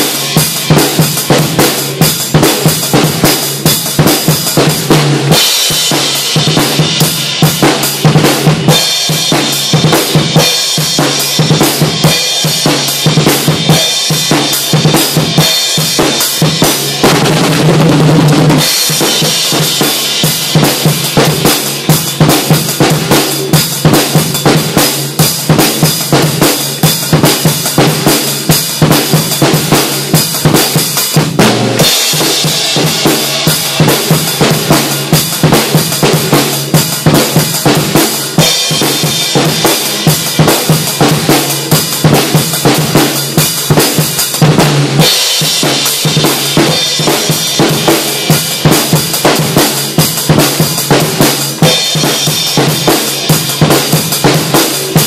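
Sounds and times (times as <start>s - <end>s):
drum kit played fast: 0.0s - 55.0s.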